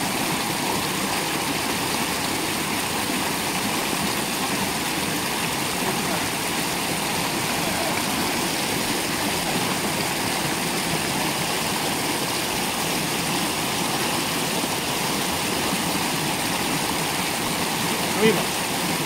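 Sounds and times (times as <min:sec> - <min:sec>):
mountain stream rushing over stones: 0:00.0 - 0:19.0.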